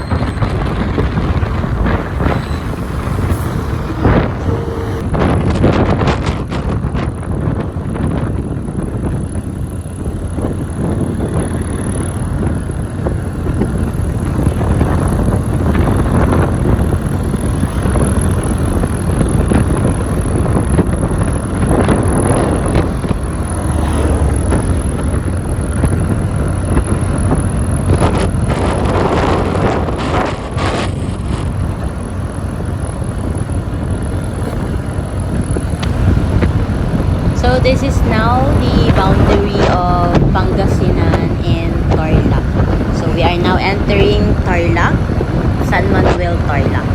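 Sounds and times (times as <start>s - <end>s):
scooter engine running: 0.0s - 5.2s, 6.9s - 46.9s
road noise: 0.0s - 46.9s
wind rushing over microphone: 0.0s - 46.9s.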